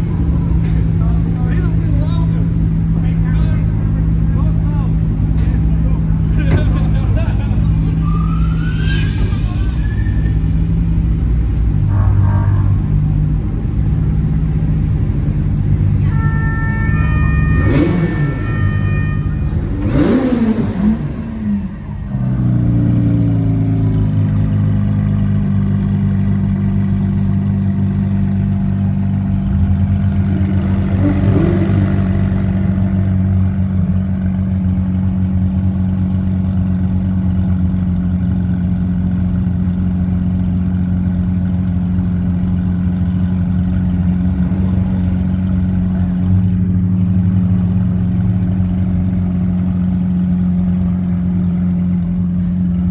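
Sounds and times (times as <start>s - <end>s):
car engine revving and idling: 0.0s - 52.9s.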